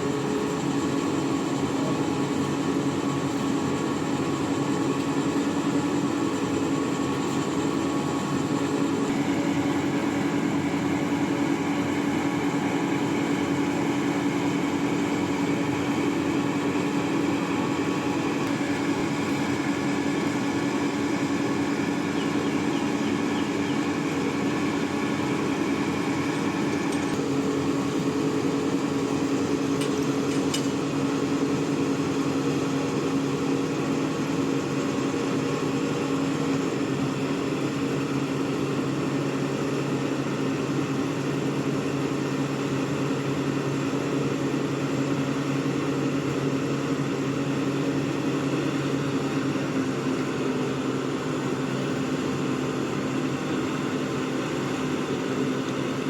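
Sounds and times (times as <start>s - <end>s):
heavy machinery engine drone: 0.0s - 56.0s.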